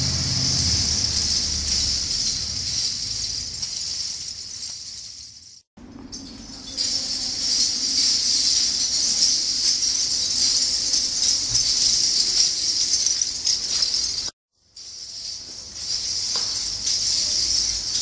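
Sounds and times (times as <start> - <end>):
bottle caps jangling: 0.0 - 18.0.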